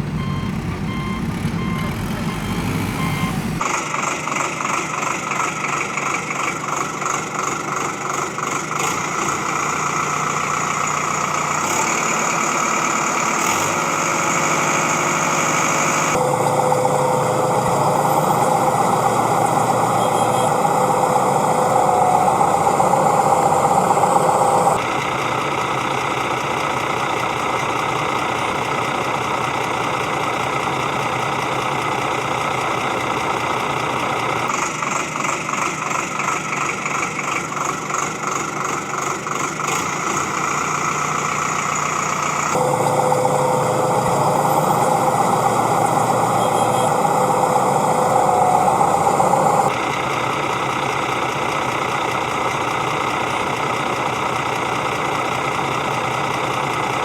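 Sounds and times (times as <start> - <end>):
mechanical engine running: 0.0 - 57.0.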